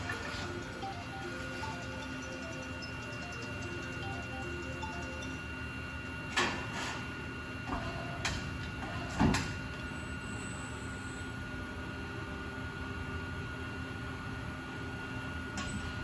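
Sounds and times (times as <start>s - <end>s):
faint machine whine: 0.0s - 16.0s.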